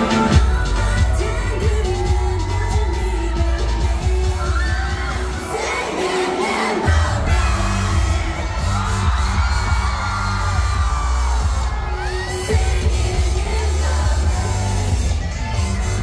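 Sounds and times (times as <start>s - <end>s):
dance-pop song over sound system: 0.0s - 16.0s
fans whooping and screaming: 0.0s - 16.0s
heavy bass beat: 0.0s - 16.0s
woman singing: 0.0s - 16.0s.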